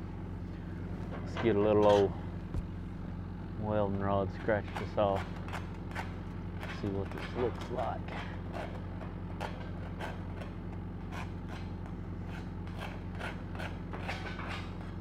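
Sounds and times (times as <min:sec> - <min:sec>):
welding machine engine hum: 0:00.0 - 0:15.0.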